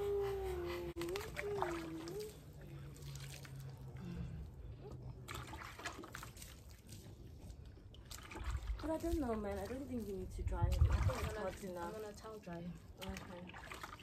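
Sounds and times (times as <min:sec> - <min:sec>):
small splashes: 0:01.0 - 0:14.0
water trickling into bucket: 0:01.0 - 0:14.0.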